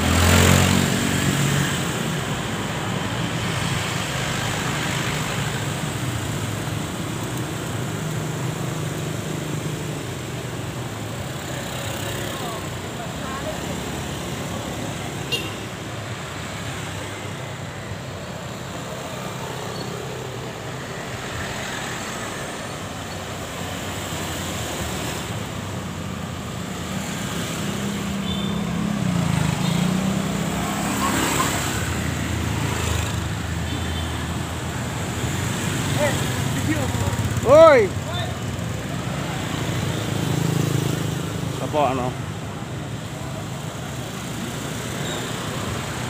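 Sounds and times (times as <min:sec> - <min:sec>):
cars and scooters passing: 0:00.0 - 0:46.0.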